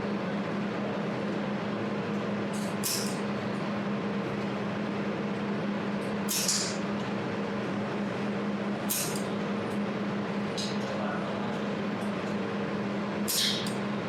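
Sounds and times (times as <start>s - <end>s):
laser welding machine humming: 0.5s - 10.8s, 11.4s - 14.0s.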